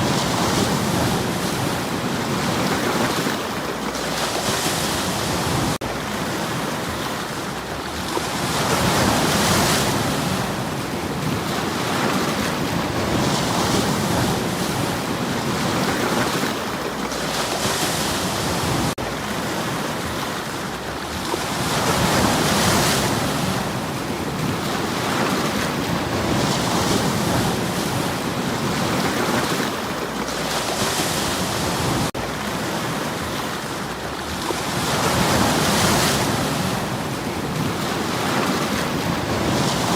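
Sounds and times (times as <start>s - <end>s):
waves breaking on stony shore: 0.0s - 39.9s.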